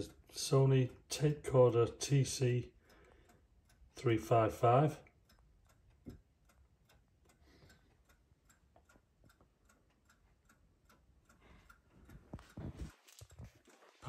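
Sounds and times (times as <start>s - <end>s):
mantel clock ticking: 0.0s - 14.0s.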